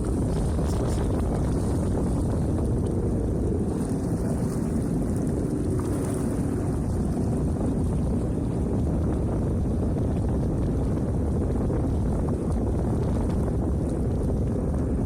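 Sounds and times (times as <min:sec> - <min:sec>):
jet ski engine running: 0:00.0 - 0:15.0
wind buffeting microphone: 0:00.0 - 0:15.0.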